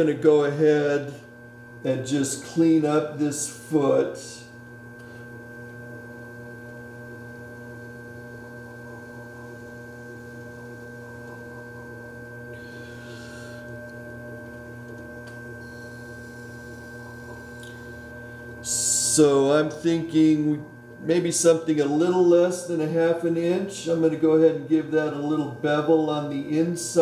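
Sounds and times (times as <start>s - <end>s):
potter's wheel humming: 0.0s - 27.0s.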